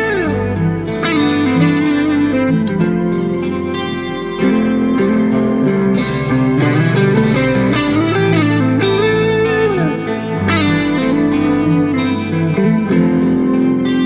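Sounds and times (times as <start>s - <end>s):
guitar music with sliding notes: 0.0s - 14.0s.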